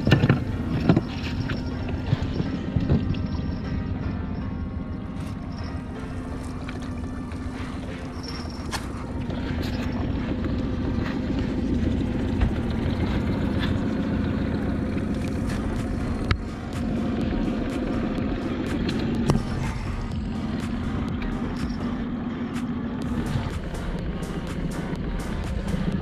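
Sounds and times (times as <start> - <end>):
outboard motor running: 0.0 - 26.0
water washing along hull: 0.0 - 26.0.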